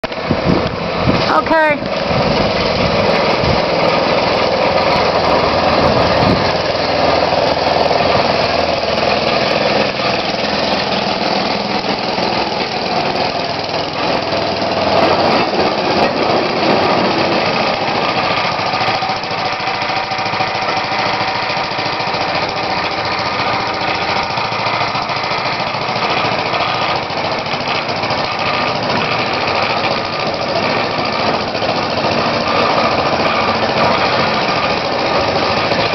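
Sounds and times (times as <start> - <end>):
rail car engine running: 0.0 - 35.9.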